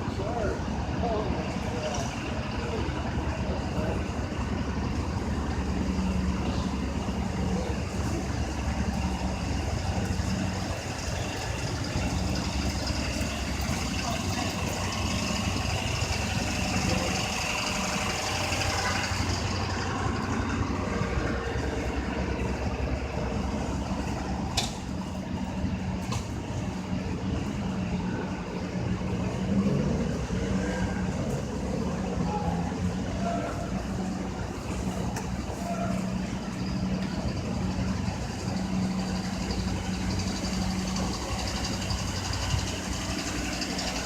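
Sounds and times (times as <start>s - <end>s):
large vehicle engine idling: 0.0s - 44.0s.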